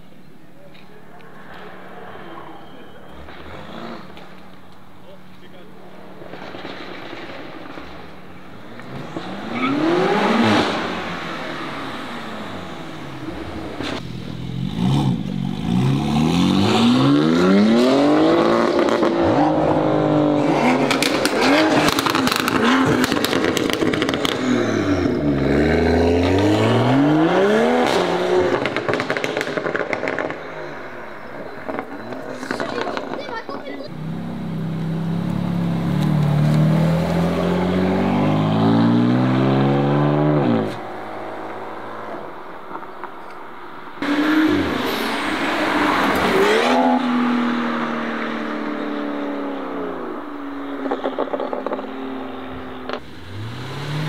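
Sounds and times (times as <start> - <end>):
exhaust crackles: 0.5 - 54.0
car engine revving and accelerating: 3.2 - 4.4, 8.5 - 33.2, 33.9 - 43.0, 43.9 - 54.0.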